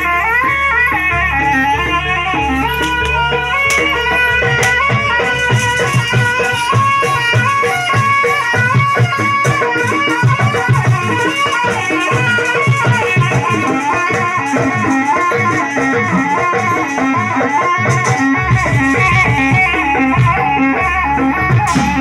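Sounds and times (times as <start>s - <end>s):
drum beats: 0.0s - 22.0s
traditional music melody: 0.0s - 22.0s
continuous rattle: 0.2s - 22.0s.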